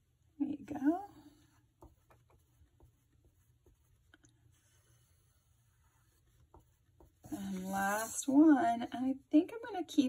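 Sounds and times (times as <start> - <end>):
pencil drawing on paper: 0.9 - 9.5.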